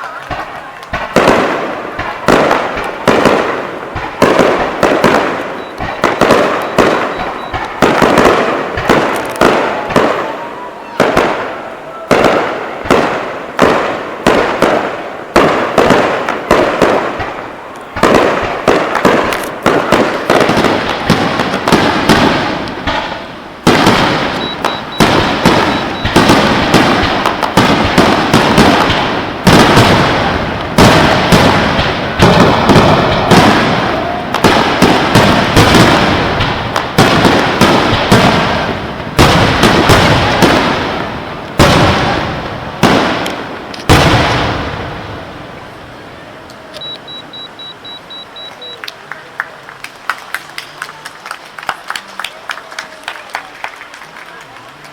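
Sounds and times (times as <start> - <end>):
fireworks bursting with crackling: 0.0 - 54.9.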